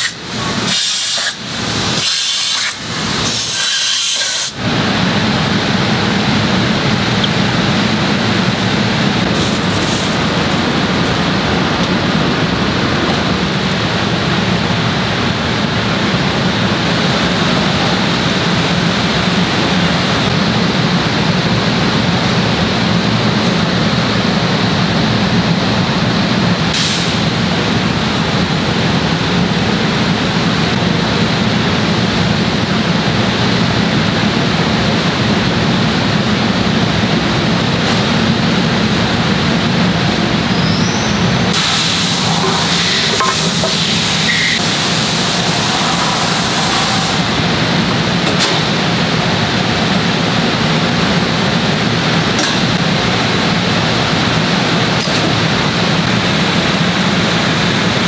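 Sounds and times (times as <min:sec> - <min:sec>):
factory machinery drone: 0:00.0 - 0:58.0.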